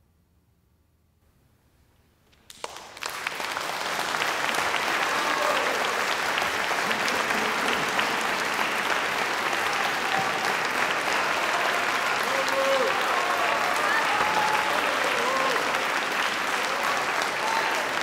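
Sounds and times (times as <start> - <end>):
audience applause: 2.5 - 18.0.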